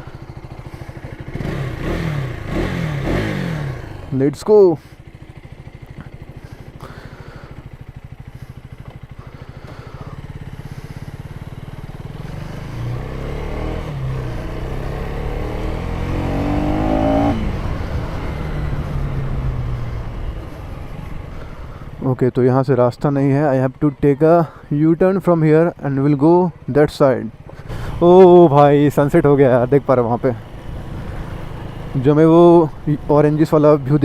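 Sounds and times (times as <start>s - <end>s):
motorcycle engine accelerating: 0.0s - 22.0s, 25.3s - 34.0s.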